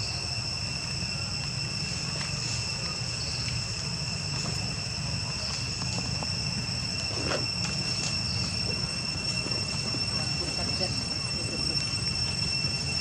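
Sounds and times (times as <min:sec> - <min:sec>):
insects droning high-pitched: 0:00.0 - 0:13.0.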